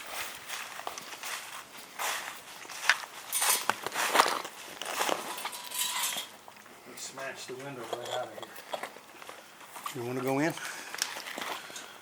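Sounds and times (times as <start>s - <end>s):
footsteps of people walking: 0.0s - 6.1s, 7.8s - 12.0s.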